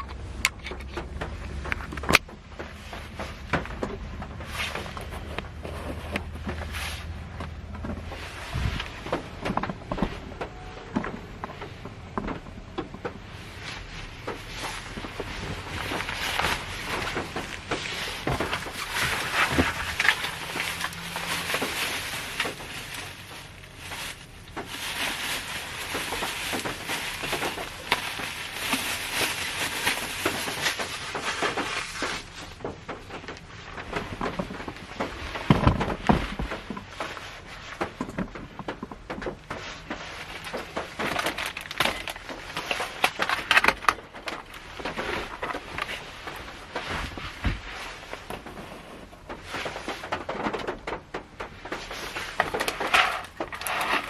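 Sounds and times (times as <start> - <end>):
rain pattering on car roof: 0.0 - 5.2, 6.1 - 54.0.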